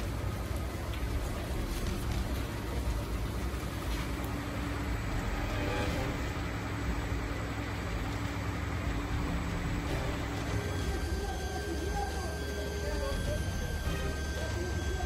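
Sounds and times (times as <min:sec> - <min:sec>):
faint hum: 0:00.0 - 0:15.0
fire truck engines rumbling: 0:00.0 - 0:15.0.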